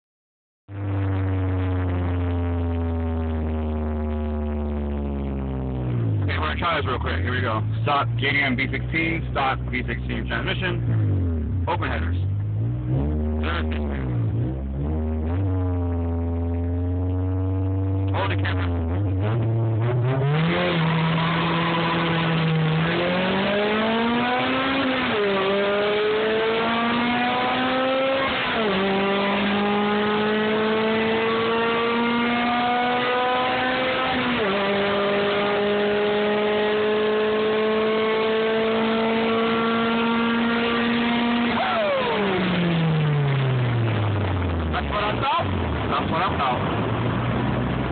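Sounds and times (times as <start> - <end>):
car engine revving and upshifting: 0.9 - 47.9.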